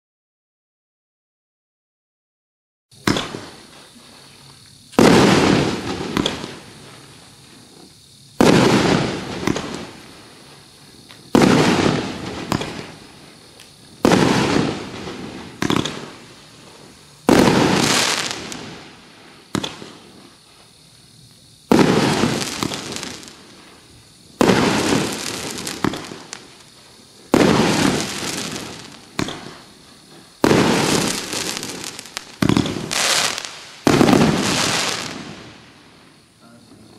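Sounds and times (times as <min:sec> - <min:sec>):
firework bangs: 0:02.9 - 0:36.8.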